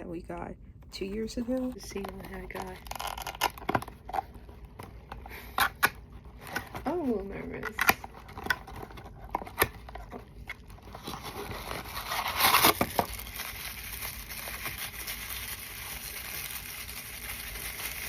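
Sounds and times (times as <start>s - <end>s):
packaging clicks and crinkling: 1.3s - 18.0s
packaging rustle: 1.4s - 18.0s.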